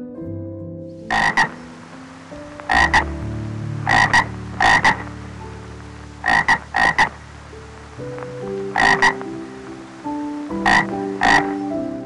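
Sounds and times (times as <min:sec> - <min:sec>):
frog croaking: 0:01.1 - 0:12.0.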